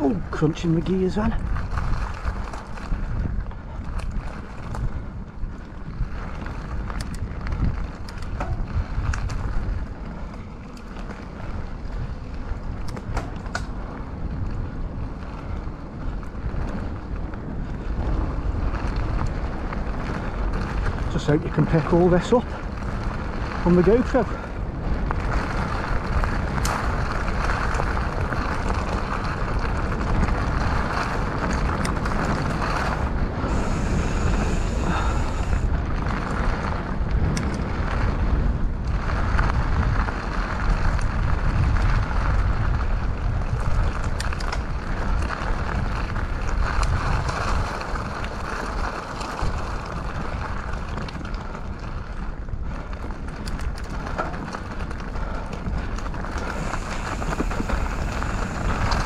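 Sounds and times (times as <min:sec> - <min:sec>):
bike knocks and rattles: 0:00.0 - 0:33.4, 0:35.0 - 0:59.0
tyres rolling over rough ground: 0:00.0 - 0:59.0
wind rushing over microphone: 0:00.0 - 0:59.0.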